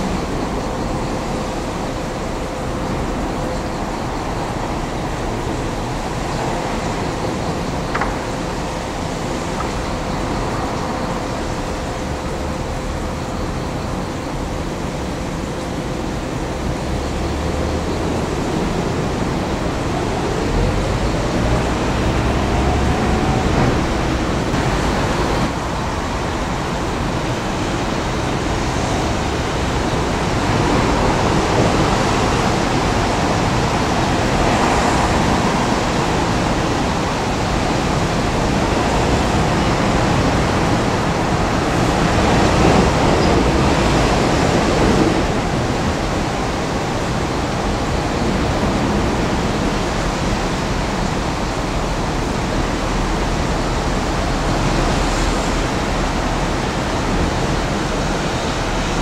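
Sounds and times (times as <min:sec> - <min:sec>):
excavator engine and hydraulics rumbling: 0:00.0 - 0:59.0.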